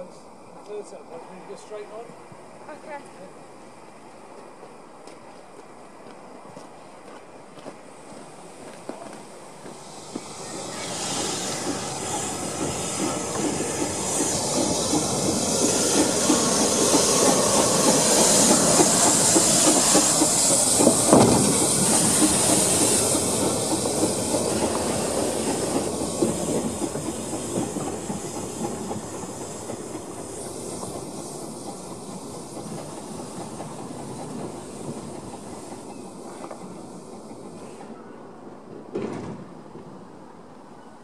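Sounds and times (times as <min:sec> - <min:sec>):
train wheels clattering over rails: 0:04.3 - 0:38.0, 0:38.7 - 0:39.9
steam hissing: 0:05.2 - 0:38.2.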